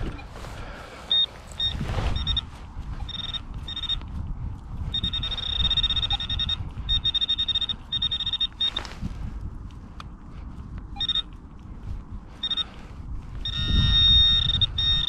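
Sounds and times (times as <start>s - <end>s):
low rumble of wind or handling: 0.0s - 15.0s
pinpointer pulsing buzz tone: 1.1s - 9.8s, 10.6s - 15.0s.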